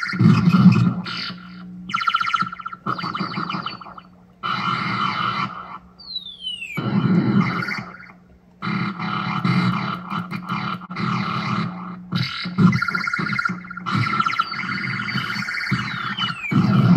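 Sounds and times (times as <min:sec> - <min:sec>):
distorted electronic zaps and buzzes: 0:00.0 - 0:05.8, 0:06.8 - 0:16.9.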